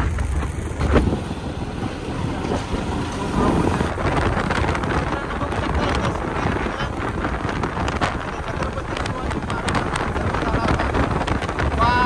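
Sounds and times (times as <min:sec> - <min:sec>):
motorcycle engine and road noise: 0:00.0 - 0:12.0
wind rushing over microphone: 0:00.0 - 0:12.0.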